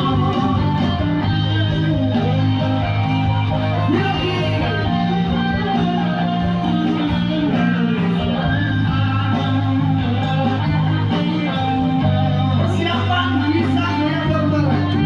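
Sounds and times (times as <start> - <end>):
electric guitar: 0.0 - 15.0
steady bass line: 0.0 - 15.0.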